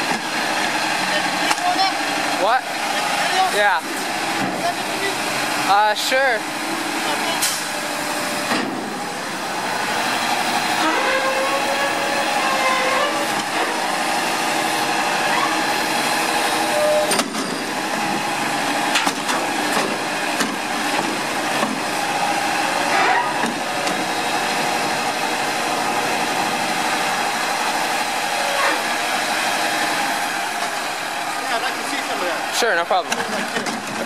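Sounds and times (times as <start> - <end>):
truck engine revving with hydraulic whine: 0.0 - 34.0.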